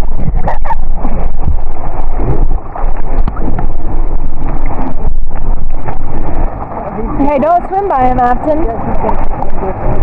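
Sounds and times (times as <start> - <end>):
low rumble: 0.0 - 10.0
water crackling on microphone: 0.0 - 10.0.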